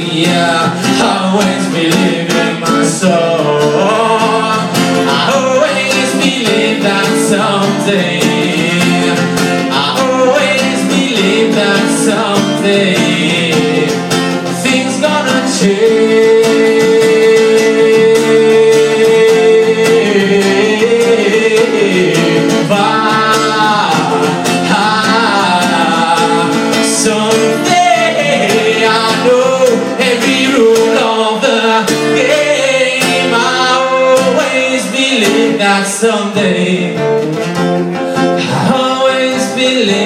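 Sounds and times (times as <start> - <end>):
man singing: 0.0 - 40.0
strummed acoustic guitar: 0.0 - 40.0.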